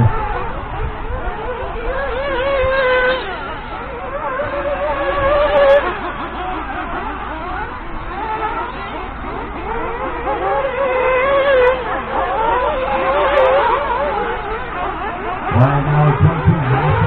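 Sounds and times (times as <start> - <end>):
model car engines whining: 0.0 - 17.0.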